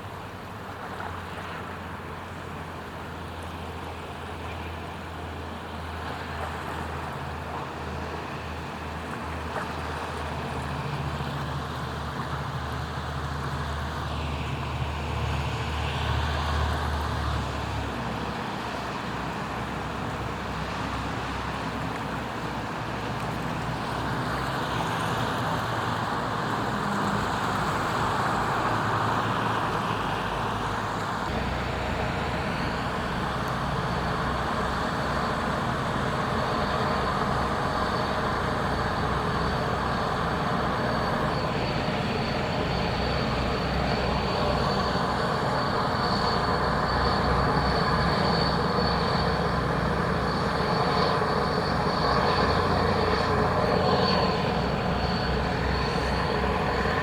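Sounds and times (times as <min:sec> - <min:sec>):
wash of noise: 0:00.0 - 0:57.0
engine humming: 0:09.0 - 0:57.0.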